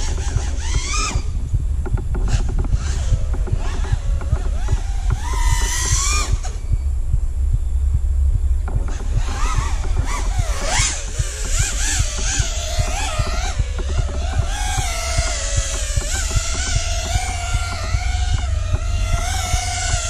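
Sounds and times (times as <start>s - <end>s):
drone motors whining: 0.0s - 20.0s
prop wash and wind rumble: 0.0s - 20.0s.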